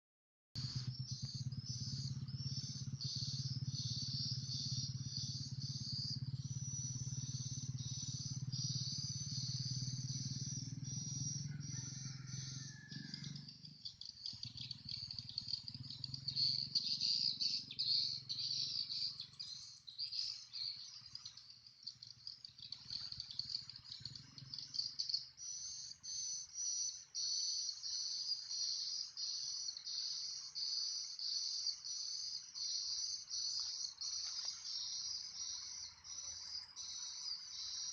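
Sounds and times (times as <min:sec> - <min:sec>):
crickets chirping: 0:00.6 - 0:37.9.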